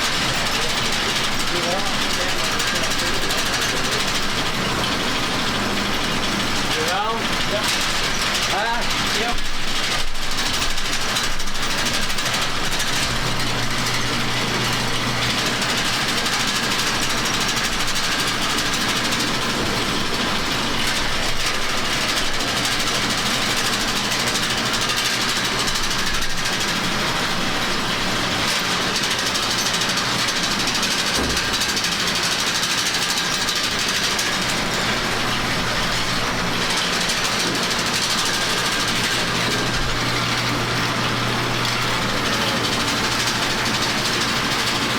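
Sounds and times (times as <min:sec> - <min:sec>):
farm machinery engine running: 0:00.0 - 0:44.9
mechanical clatter: 0:00.0 - 0:44.9.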